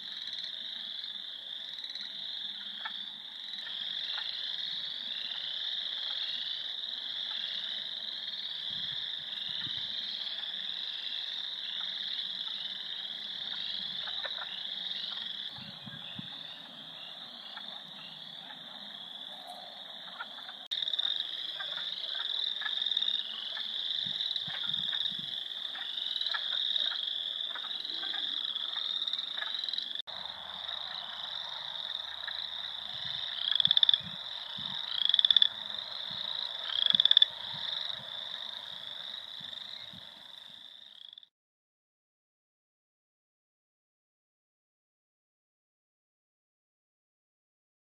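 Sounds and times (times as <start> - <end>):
frogs trilling in chorus: 0.0 - 41.3
low frog croaks: 0.0 - 41.3.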